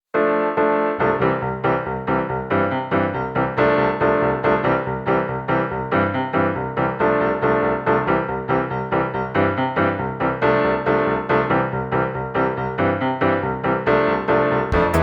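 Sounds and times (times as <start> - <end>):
piano music: 0.2 - 15.0.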